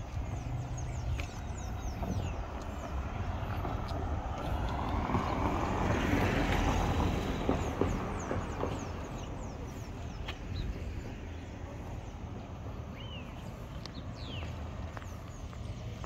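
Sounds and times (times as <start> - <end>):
birds chirping: 0.0 - 16.0
wind rumble: 0.0 - 16.0.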